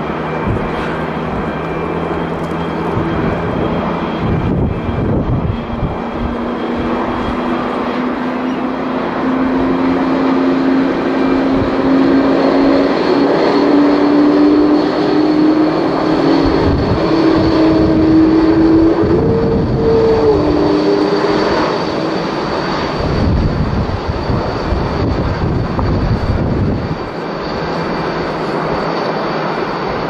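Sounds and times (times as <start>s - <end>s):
jet engines spooling up: 0.0s - 30.0s.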